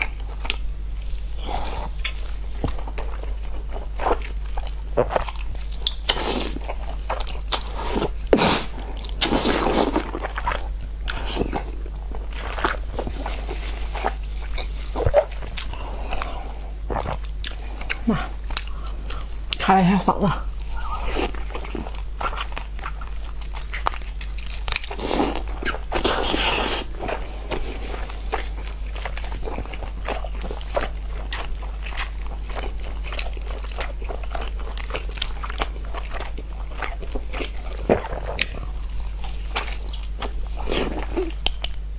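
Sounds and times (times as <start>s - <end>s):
low steady hum: 0.0s - 41.9s
person chewing crunchy food: 0.0s - 41.9s.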